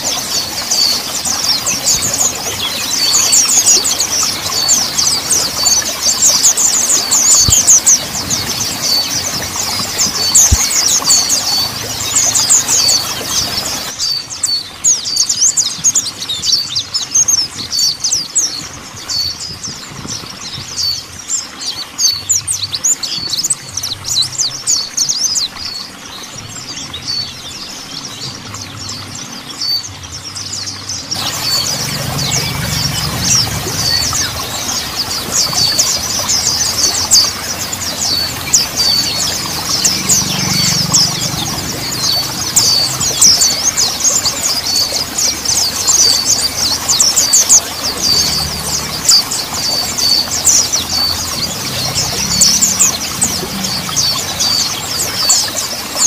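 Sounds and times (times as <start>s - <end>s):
bird singing high chirps and trills: 0.0s - 56.0s.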